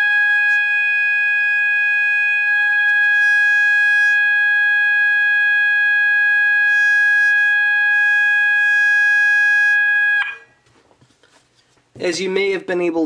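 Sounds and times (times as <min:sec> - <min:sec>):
fire alarm steady tone: 0:00.0 - 0:10.5.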